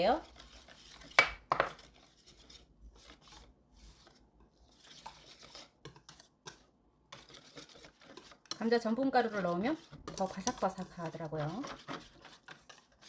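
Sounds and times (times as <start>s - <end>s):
whisk scraping metal bowl: 0.0s - 13.0s.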